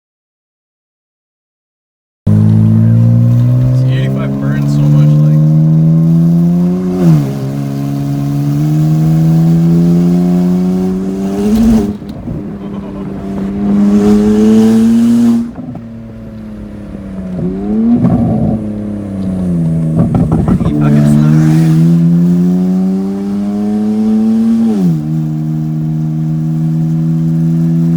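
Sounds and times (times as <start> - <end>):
car engine accelerating through gears: 2.3 - 27.9.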